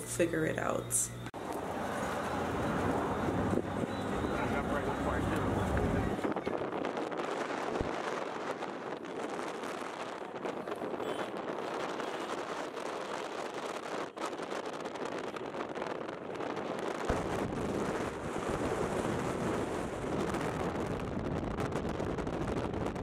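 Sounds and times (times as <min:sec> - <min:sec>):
road and traffic noise: 0:00.0 - 0:22.7
wind buffeting microphone: 0:01.6 - 0:23.0.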